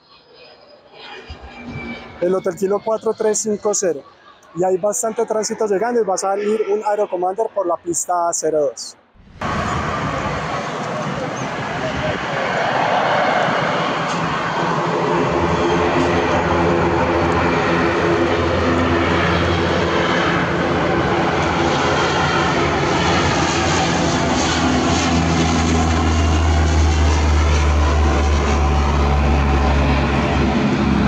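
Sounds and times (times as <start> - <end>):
propeller plane engines running: 0.1 - 6.8, 9.3 - 31.0.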